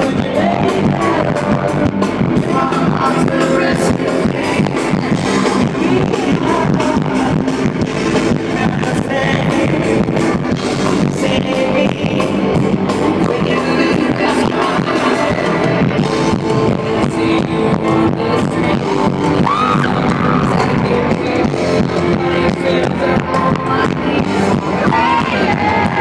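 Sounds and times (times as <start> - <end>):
drums: 0.0 - 26.0
electric guitar: 0.0 - 26.0
person singing: 0.0 - 26.0.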